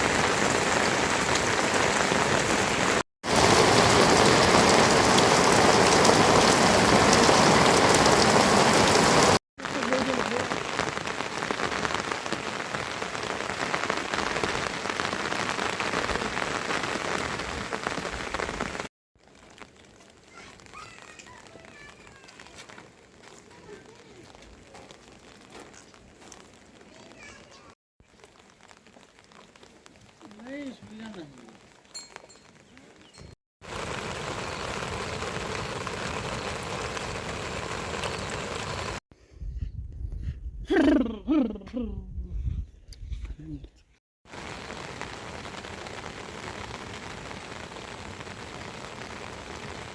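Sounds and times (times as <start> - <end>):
heavy rain pattering: 0.0 - 31.8, 32.4 - 39.0, 44.3 - 49.9.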